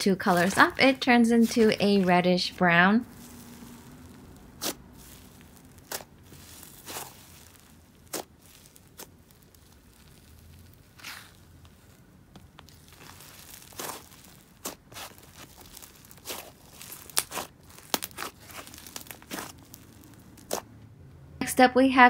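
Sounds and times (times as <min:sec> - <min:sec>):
slime crackling sizzles: 0:00.0 - 0:20.7.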